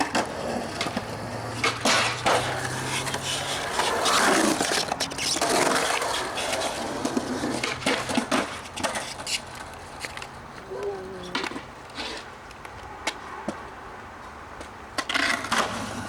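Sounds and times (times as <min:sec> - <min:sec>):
skateboard clacking: 0:00.0 - 0:13.6, 0:14.6 - 0:16.0
skateboard wheels rolling: 0:00.0 - 0:16.0.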